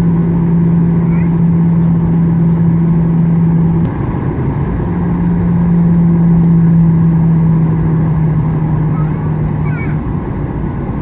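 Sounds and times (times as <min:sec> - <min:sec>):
airplane cabin engine drone: 0:00.0 - 0:11.0
constant low hum: 0:00.0 - 0:11.0.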